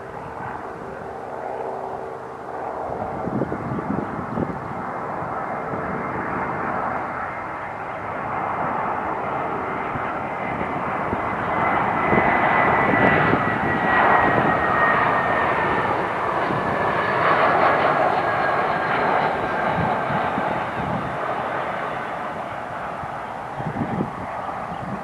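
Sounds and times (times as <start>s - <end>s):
airliner on approach: 0.0s - 25.0s
high jet fan whine: 0.0s - 25.0s.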